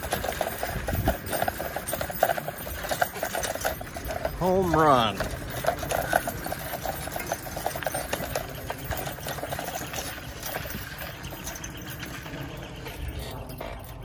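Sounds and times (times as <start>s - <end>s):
bicycle ticking and rattling: 0.0s - 14.0s
tyre and wind rumble: 0.0s - 14.0s.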